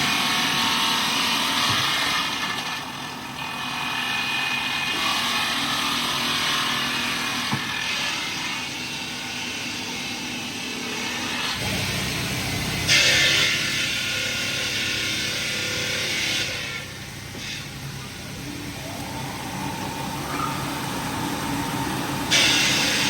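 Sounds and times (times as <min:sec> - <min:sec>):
heavy machinery running: 0:00.0 - 0:23.0.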